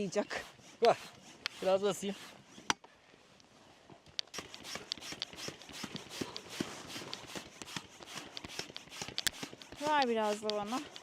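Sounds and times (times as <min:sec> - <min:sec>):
manual air pump clicking: 0:00.0 - 0:03.5, 0:04.1 - 0:11.0.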